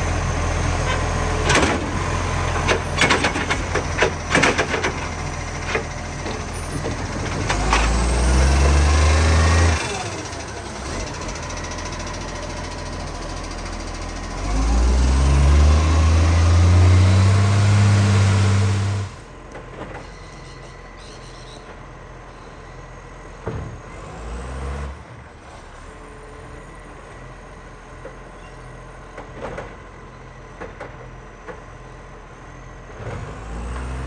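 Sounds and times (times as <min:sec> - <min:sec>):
diesel truck engine pulling away: 0:00.0 - 0:19.5, 0:22.7 - 0:31.1, 0:31.7 - 0:34.0.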